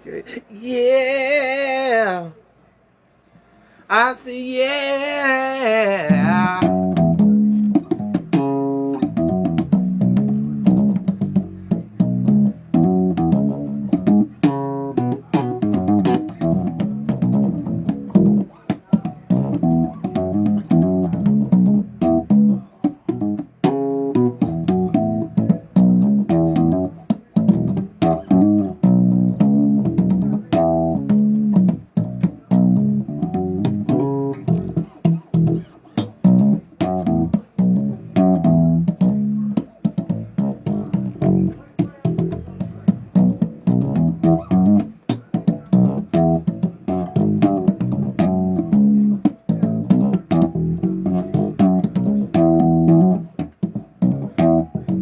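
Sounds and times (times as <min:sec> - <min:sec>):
bass guitar riff: 0:04.6 - 0:55.0.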